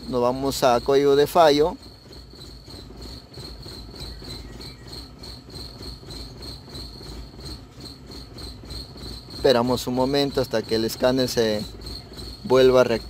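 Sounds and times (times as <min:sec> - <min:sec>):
high-pitched pulsing chirr: 0:00.0 - 0:13.0.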